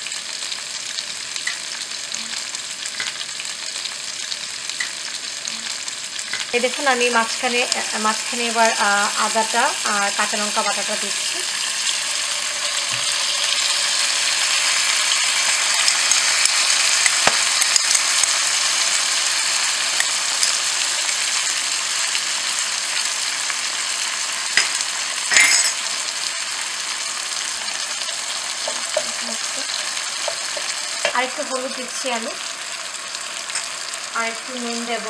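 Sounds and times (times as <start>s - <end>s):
oil sizzling in a frying pan: 0.0s - 35.0s.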